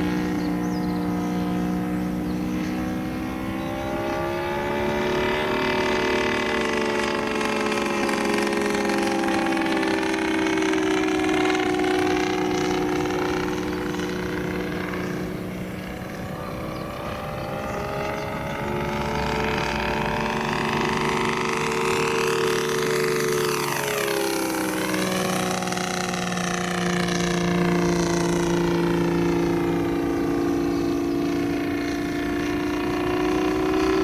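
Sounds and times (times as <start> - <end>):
model airplane engine: 0.0 - 34.0.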